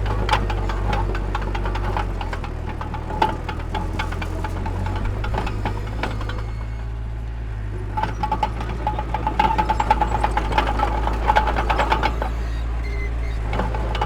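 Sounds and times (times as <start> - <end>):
metallic clanking and rattling: 0.0 - 7.0, 7.8 - 14.0
heavy machinery engine drone: 0.0 - 14.0.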